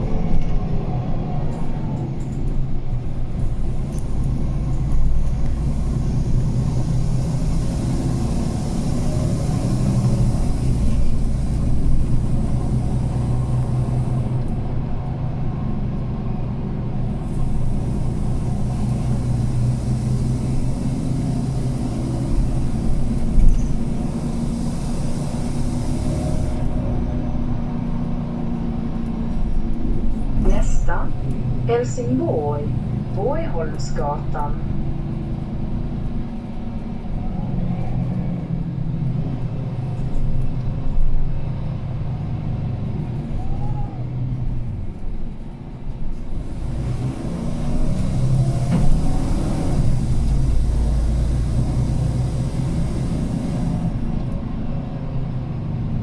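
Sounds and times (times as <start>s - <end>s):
bus engine humming: 0.0s - 56.0s
road rumble: 0.0s - 56.0s.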